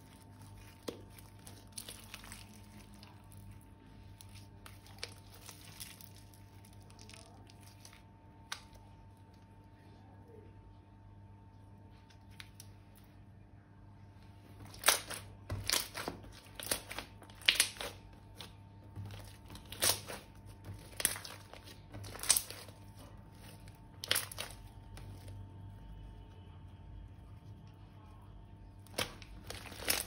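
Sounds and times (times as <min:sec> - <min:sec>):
slime materials crinkling by hand: 0:00.0 - 0:09.9, 0:11.9 - 0:13.2, 0:14.2 - 0:30.0
faint steady hum: 0:00.0 - 0:30.0.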